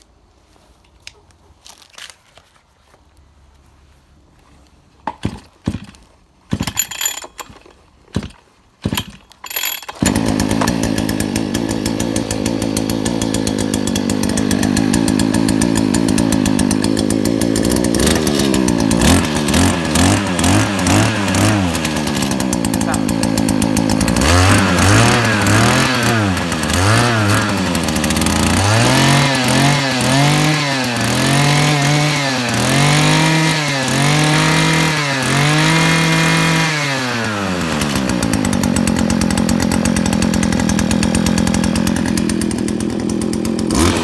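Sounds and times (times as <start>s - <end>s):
brush cutter engine pull-starting: 5.1s - 44.0s
brush cutter engine revving: 5.1s - 44.0s
brush cutter engine running: 5.1s - 44.0s.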